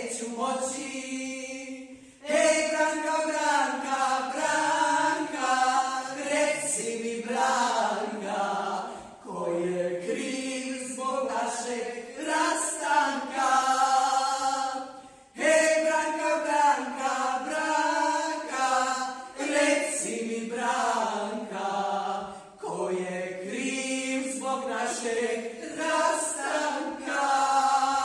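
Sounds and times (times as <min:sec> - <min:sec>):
group singing in unison: 0:00.0 - 0:28.0.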